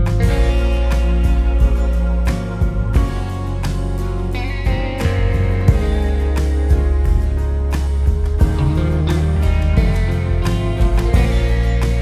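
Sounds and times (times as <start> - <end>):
guitar music: 0.0 - 12.0
steady low bass: 0.0 - 12.0.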